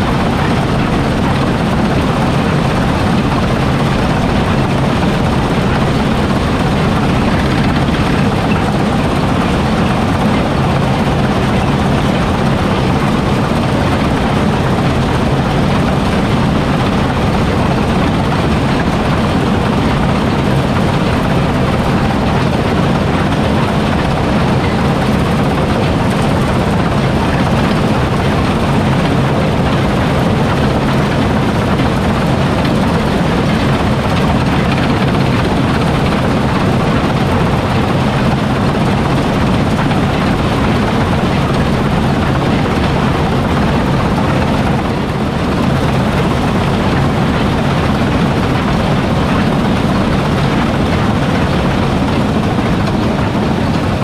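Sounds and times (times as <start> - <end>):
farm machinery engine droning: 0.0 - 54.0.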